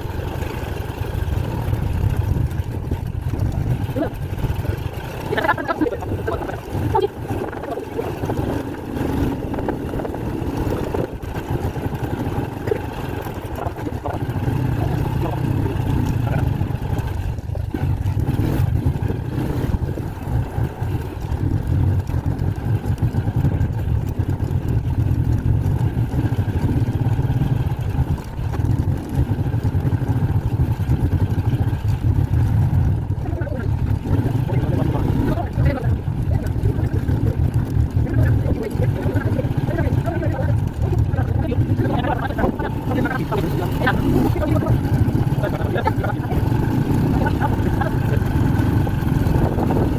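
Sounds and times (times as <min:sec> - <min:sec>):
road noise: 0:00.0 - 0:49.9
vehicle engine rumble: 0:00.0 - 0:49.9.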